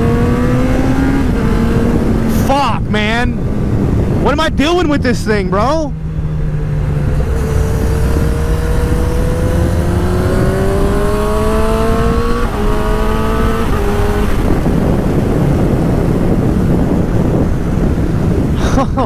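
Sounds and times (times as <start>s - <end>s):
motorcycle engine accelerating: 0.0s - 2.6s, 5.4s - 18.6s
wind rush on microphone: 0.0s - 19.0s.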